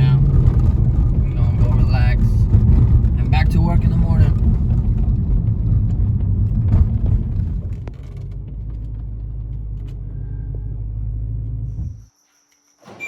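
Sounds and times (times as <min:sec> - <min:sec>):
car engine and road rumble: 0:00.0 - 0:12.2.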